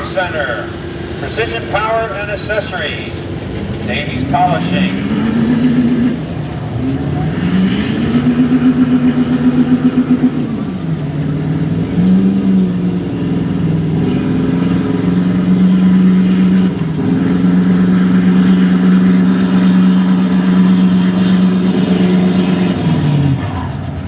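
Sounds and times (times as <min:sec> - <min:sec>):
truck engine revving under load: 0:00.0 - 0:24.0.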